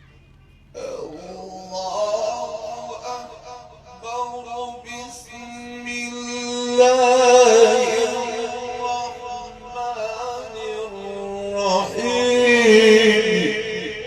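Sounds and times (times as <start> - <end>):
man reciting melodically: 0.6 - 14.0.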